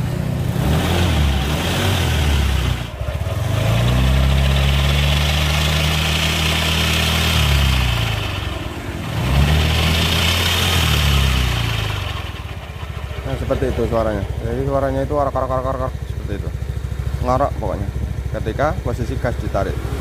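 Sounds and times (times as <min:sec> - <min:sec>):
rough transmission growl: 0:00.0 - 0:20.0
scooter engine revving: 0:00.0 - 0:20.0.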